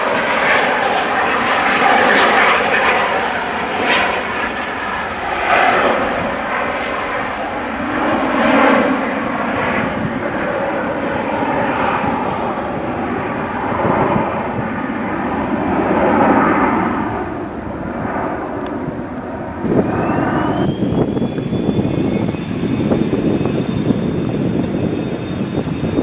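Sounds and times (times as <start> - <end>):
jet engines spooling up: 0.0 - 26.0
jet roar: 0.0 - 26.0.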